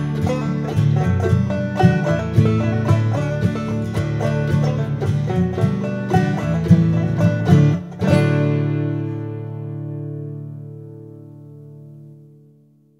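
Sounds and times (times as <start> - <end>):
bluegrass music on strings: 0.0 - 12.9.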